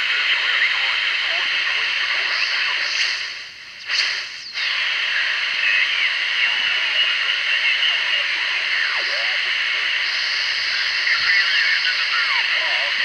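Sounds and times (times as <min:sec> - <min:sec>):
radio band hiss: 0:00.0 - 0:13.0
warbling radio tones: 0:00.0 - 0:13.0.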